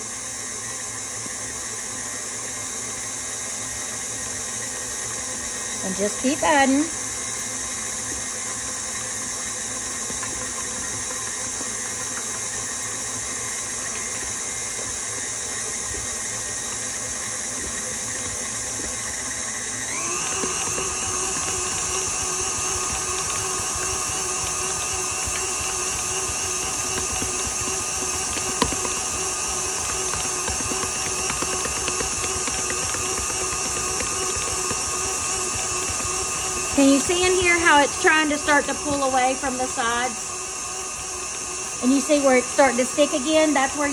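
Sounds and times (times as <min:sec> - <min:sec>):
stand mixer motor whining: 0:00.0 - 0:43.9.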